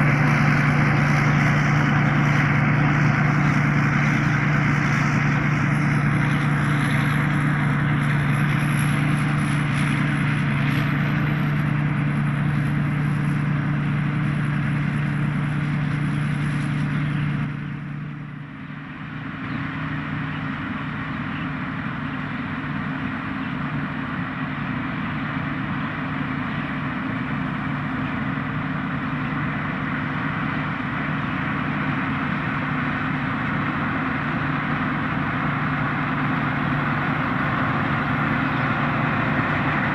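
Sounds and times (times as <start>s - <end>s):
combine harvester engine hum: 0.0s - 39.9s
machinery whirring: 0.0s - 39.9s.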